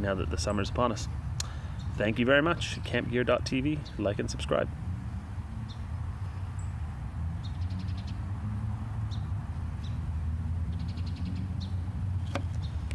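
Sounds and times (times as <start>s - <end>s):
steady low rumble: 0.0s - 12.9s
small birds chirping: 0.3s - 12.9s.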